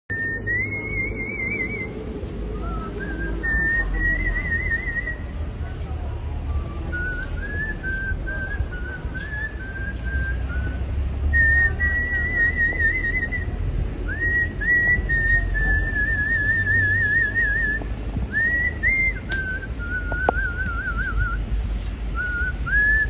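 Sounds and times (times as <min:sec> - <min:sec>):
man whistling a melody: 0:00.1 - 0:05.3, 0:06.5 - 0:21.5, 0:22.1 - 0:23.0.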